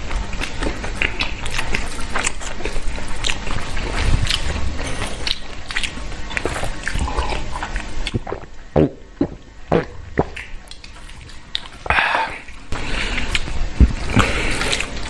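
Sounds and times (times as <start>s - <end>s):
wet chewing smacks and clicks: 0.1s - 8.6s, 9.2s - 11.9s, 12.5s - 15.0s.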